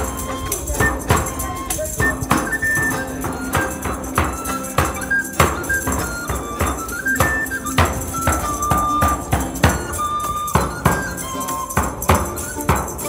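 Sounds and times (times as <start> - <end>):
frame drum with jingles: 0.0 - 13.0
pipe melody: 0.0 - 13.0
plucked lute strings: 0.0 - 13.0.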